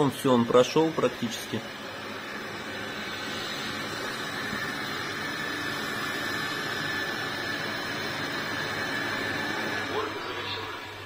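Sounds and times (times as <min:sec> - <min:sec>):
high whine: 0:00.0 - 0:11.0
robot vacuum fan noise: 0:00.0 - 0:11.0.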